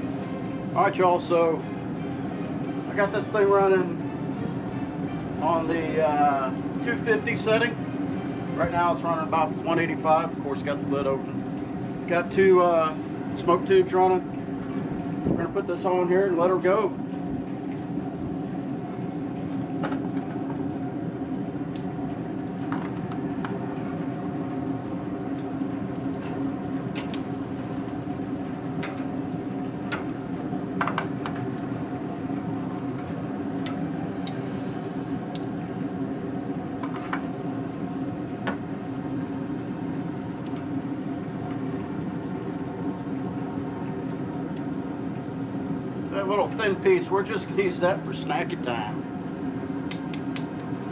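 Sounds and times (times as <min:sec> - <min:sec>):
steady mechanical hum: 0:00.0 - 0:50.9.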